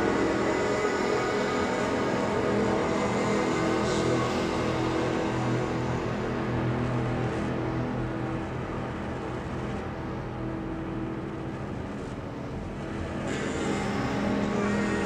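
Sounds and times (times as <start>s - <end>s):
low noisy ambient drone: 0.0s - 15.0s.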